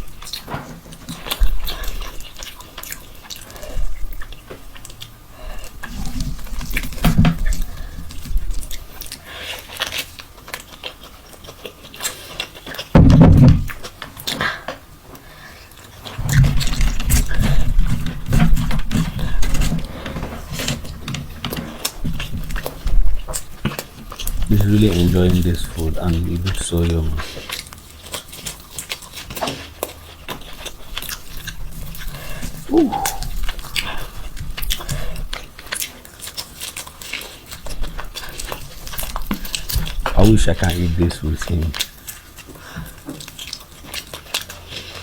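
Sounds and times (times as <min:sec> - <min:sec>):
wet chewing and mouth noises: 0:00.0 - 0:13.0, 0:13.6 - 0:45.0.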